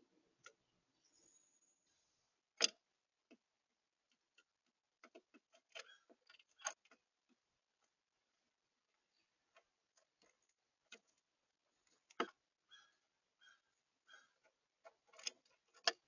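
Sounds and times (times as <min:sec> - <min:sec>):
birds pecking at a feeder: 0:00.0 - 0:16.0.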